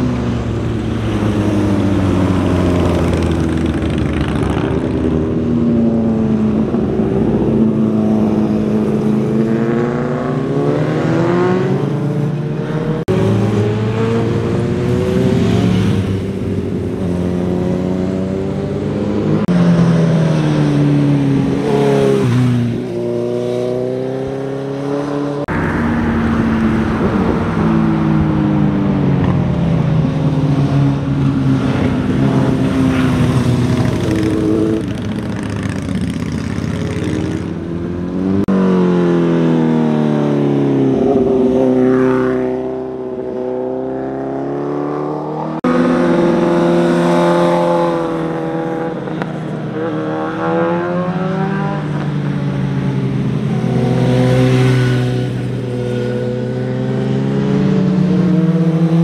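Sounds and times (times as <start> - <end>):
motorcycles revving past: 0.0 - 59.0.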